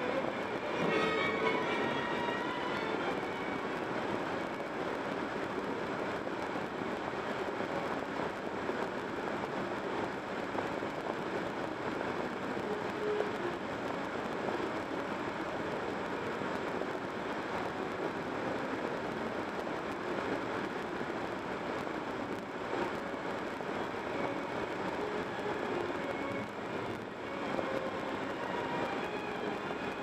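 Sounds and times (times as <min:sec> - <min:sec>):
car tyre and wind noise: 0:03.1 - 0:30.0.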